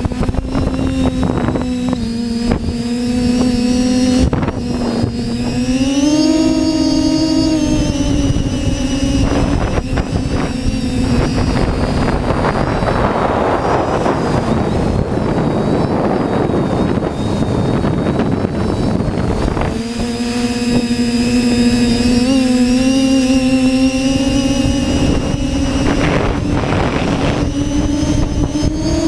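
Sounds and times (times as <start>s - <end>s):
quadcopter motors whining: 0.0s - 29.0s
wind on microphone: 0.0s - 29.0s.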